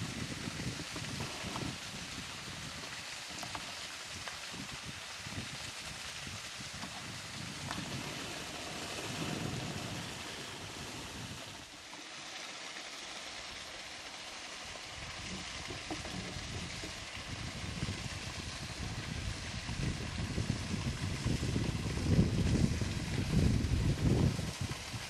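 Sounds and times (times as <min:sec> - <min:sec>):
wind on microphone: 0:00.0 - 0:11.7, 0:15.0 - 0:25.0.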